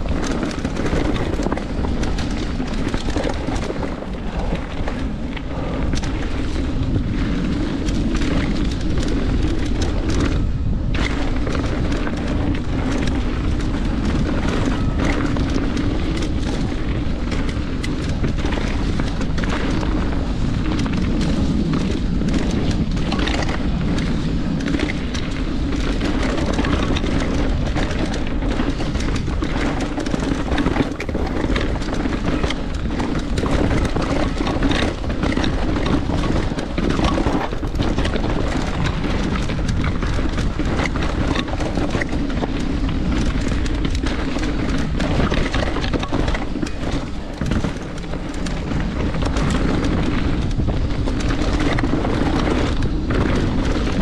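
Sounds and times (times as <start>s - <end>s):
bike knocking and rattling: 0.0s - 54.0s
tyres on dirt and rock: 0.0s - 54.0s
wind rumble on microphone: 0.0s - 54.0s.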